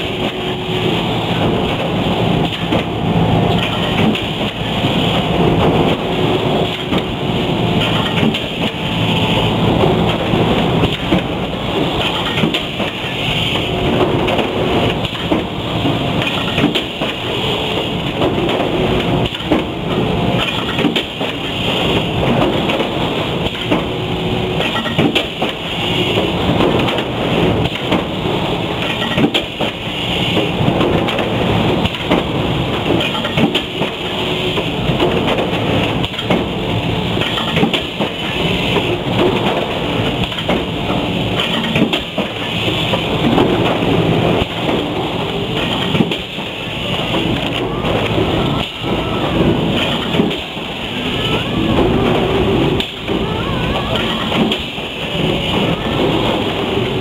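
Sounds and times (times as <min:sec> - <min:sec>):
mechanical clatter and rattling: 0:00.0 - 0:57.0.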